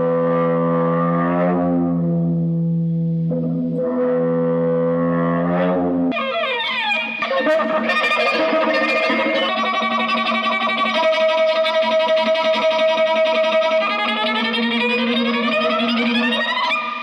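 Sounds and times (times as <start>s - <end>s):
processed strings horror tones: 0.0s - 17.0s.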